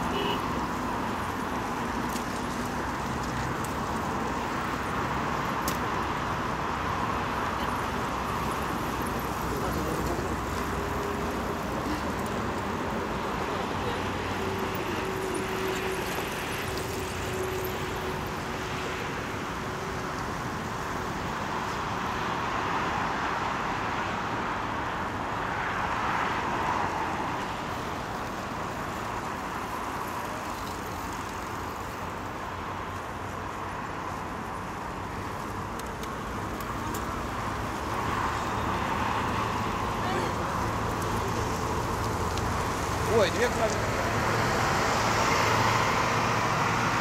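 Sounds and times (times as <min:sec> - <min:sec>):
bicycles rolling on asphalt: 0:00.0 - 0:47.0
hum of motor traffic: 0:00.0 - 0:47.0.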